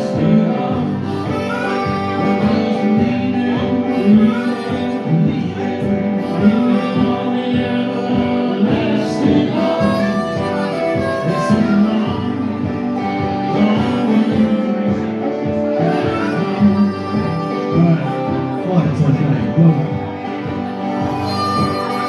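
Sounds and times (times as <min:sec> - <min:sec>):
live blues band playing: 0:00.0 - 0:22.0.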